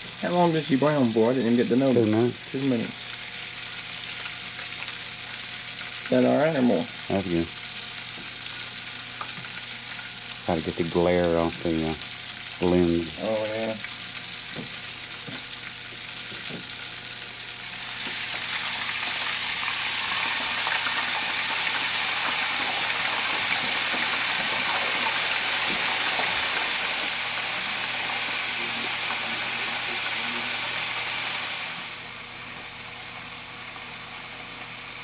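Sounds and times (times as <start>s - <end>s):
chicken frying in oil: 0.0s - 35.0s.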